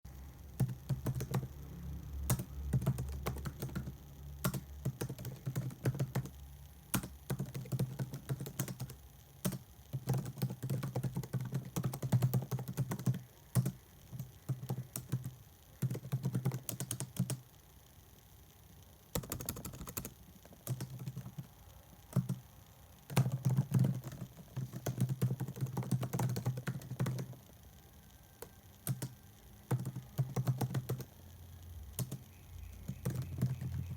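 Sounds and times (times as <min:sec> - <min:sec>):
typing on computer keyboard: 0:00.6 - 0:01.6, 0:02.2 - 0:17.5, 0:19.1 - 0:27.6, 0:28.3 - 0:31.2, 0:31.9 - 0:33.9.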